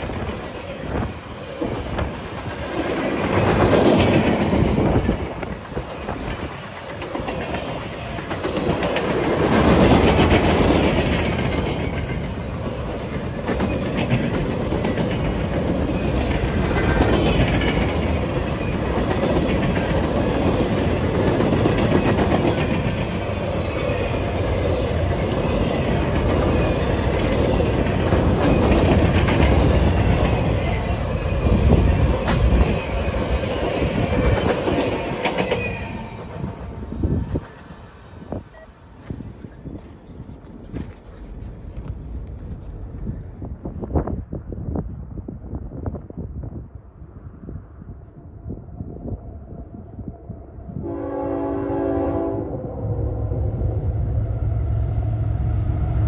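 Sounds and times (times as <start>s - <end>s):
freight train wheels on rails: 0.0s - 46.7s.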